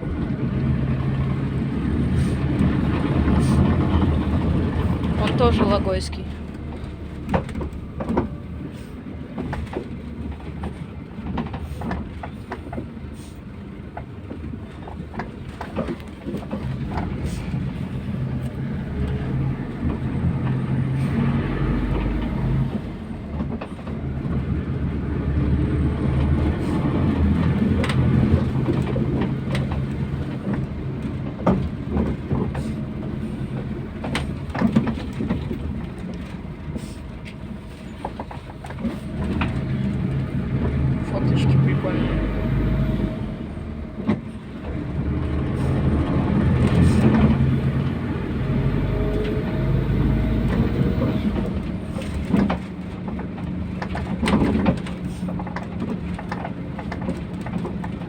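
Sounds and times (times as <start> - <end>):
bus body rattling and knocking: 0.0 - 58.0
bus engine hum: 0.0 - 58.0
road rumble: 0.0 - 58.0.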